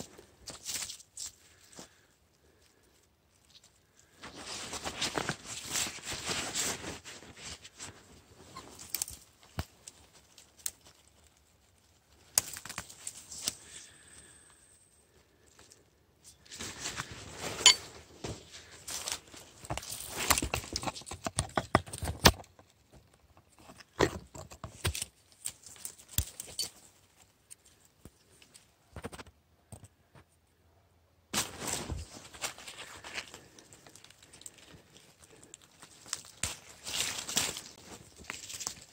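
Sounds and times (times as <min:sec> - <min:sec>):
leaves and twigs rustling: 0:00.0 - 0:21.2, 0:24.6 - 0:28.9, 0:31.3 - 0:38.9.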